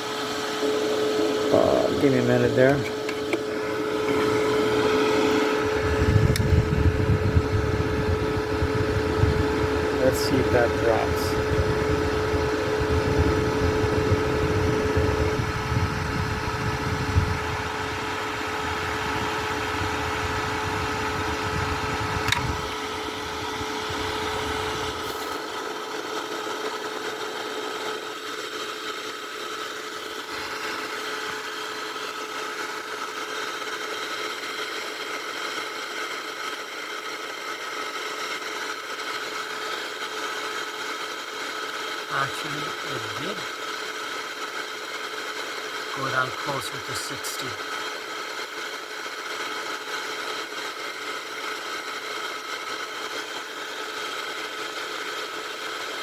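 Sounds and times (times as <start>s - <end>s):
air conditioner fan hum: 0.0s - 56.0s.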